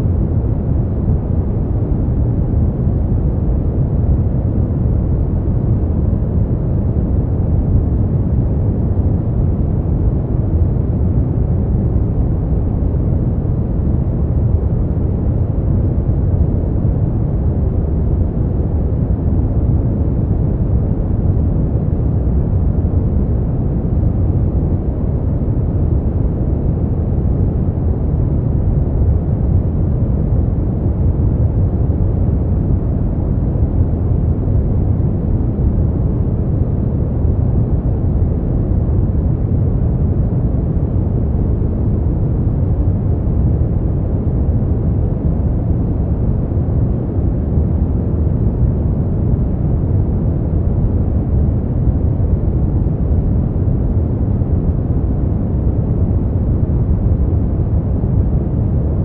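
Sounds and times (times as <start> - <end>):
deep muffled white noise: 0.0 - 59.0.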